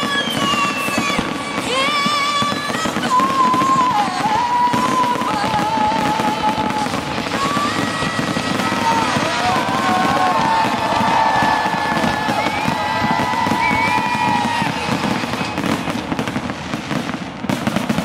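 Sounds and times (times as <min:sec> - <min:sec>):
fireworks crackling bangs: 0:00.0 - 0:18.0
fireworks whistling: 0:00.0 - 0:18.0.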